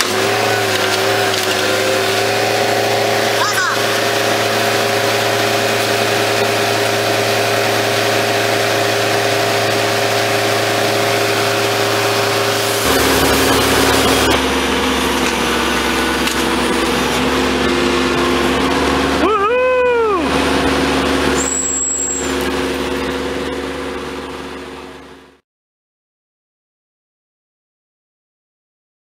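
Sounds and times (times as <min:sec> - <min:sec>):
reciprocating saw cutting roots: 0:00.0 - 0:23.5
loader engine running: 0:00.0 - 0:25.4.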